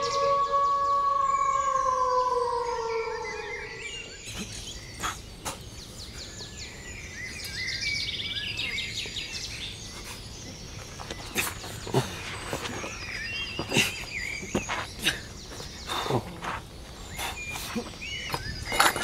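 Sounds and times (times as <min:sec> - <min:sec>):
birds chirping: 0:00.0 - 0:19.0
steady outdoor hum: 0:00.0 - 0:19.0.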